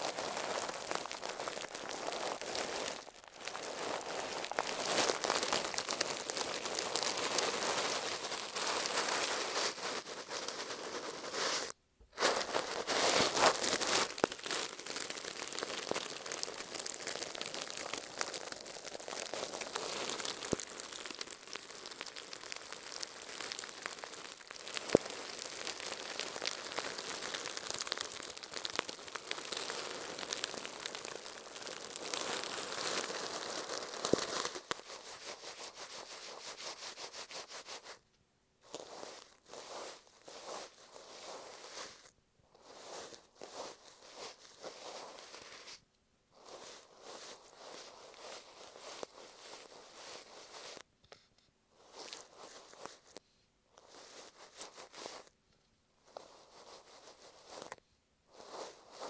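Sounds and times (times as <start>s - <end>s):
brush bristles scratching on tape: 0.0s - 38.0s, 38.7s - 45.8s, 46.4s - 50.8s, 51.8s - 53.2s, 53.8s - 55.3s.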